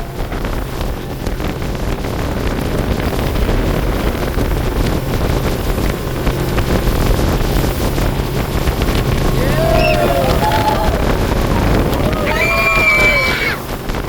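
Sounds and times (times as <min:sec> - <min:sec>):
rushing water: 0:00.0 - 0:14.0
speedboat engine drone: 0:00.0 - 0:14.0
wind buffeting microphone: 0:00.0 - 0:14.0.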